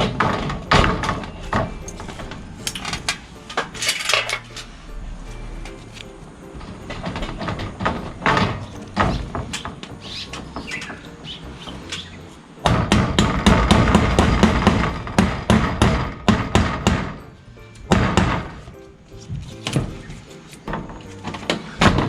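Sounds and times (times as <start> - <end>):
hammer blows: 0.0 - 22.0.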